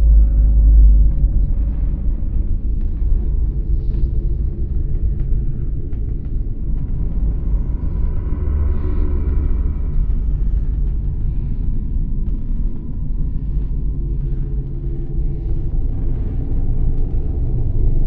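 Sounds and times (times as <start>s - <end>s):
deep rumbling drone: 0.0s - 18.0s.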